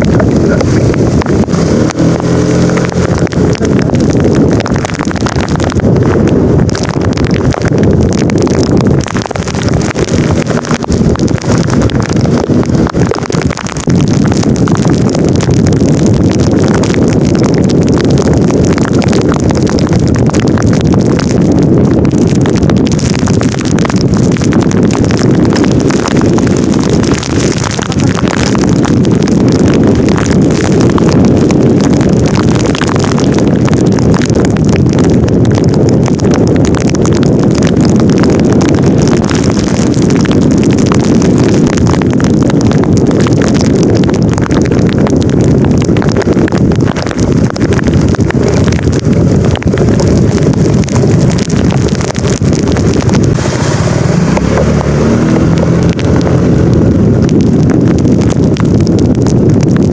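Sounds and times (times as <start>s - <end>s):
heavy rain: 0.0s - 59.9s
wind buffeting microphone: 0.0s - 59.9s.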